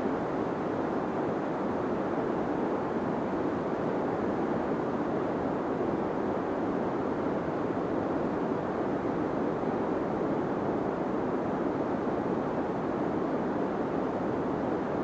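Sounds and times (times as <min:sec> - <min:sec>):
deep white noise hiss: 0:00.0 - 0:15.0.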